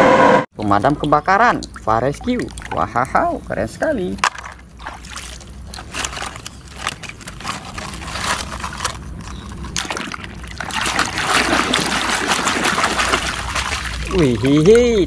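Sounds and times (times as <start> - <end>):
water sloshing and splashing: 0.5 - 15.0.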